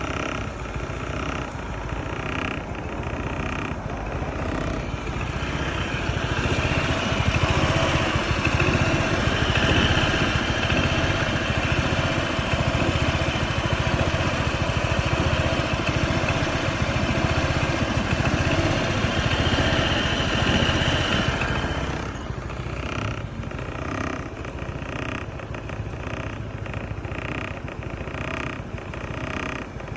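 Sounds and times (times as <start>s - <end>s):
scooter engine idling: 0.0s - 29.9s.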